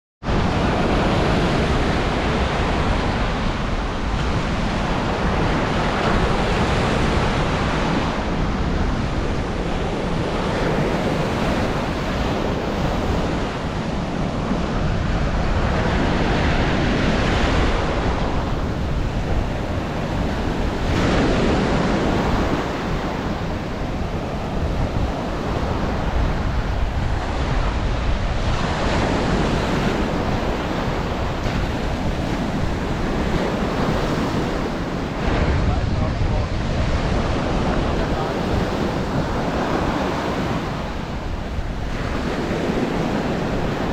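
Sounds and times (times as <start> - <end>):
ocean surf breaking: 0.2 - 43.9
wind on microphone: 0.2 - 43.9.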